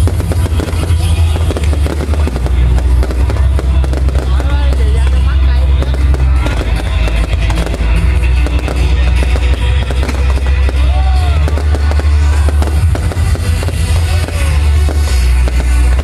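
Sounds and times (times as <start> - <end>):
fireworks bangs: 0.0 - 16.0
loud music with heavy bass: 0.0 - 16.0.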